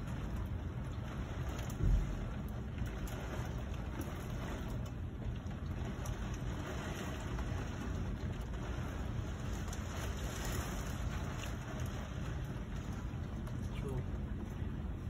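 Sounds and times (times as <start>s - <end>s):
heavy rain: 0.0s - 14.2s
wind: 0.0s - 15.0s.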